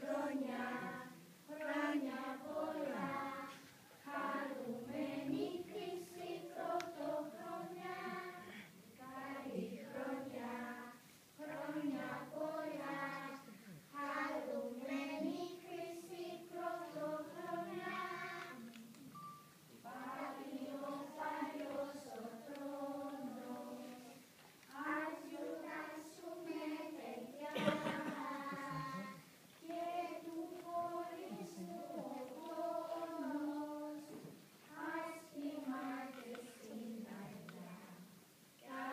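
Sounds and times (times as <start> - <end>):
children singing: 0.0 - 18.8, 19.8 - 38.9.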